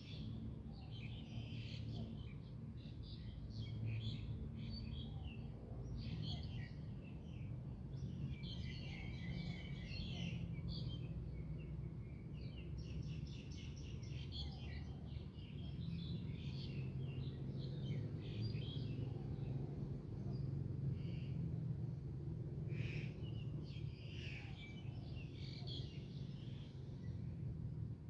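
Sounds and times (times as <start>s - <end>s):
small birds twittering: 0.0s - 27.6s.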